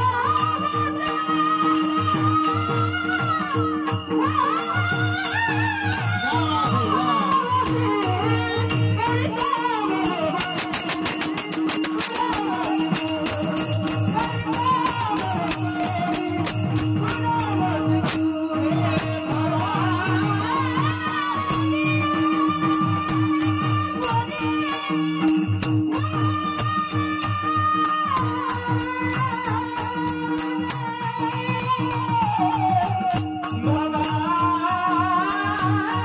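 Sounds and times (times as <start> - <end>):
hand drum beat: 0.0 - 36.0
jingling rattle of small cymbals: 0.0 - 36.0.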